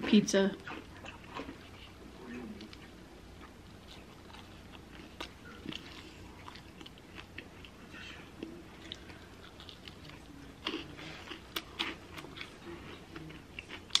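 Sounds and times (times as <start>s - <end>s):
person chewing pizza crust: 0.6s - 14.0s.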